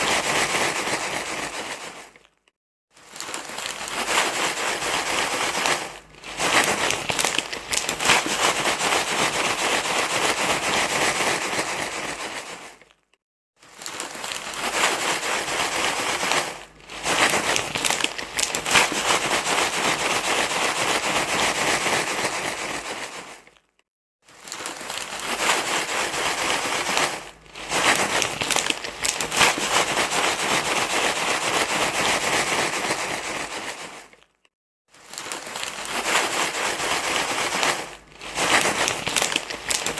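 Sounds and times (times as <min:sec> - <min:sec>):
crinkling rustling noise: 0:00.0 - 0:39.9.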